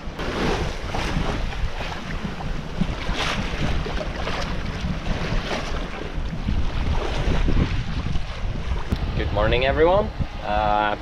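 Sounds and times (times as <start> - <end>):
water washing against hull: 0.0 - 11.0
wind buffeting microphone: 0.0 - 11.0.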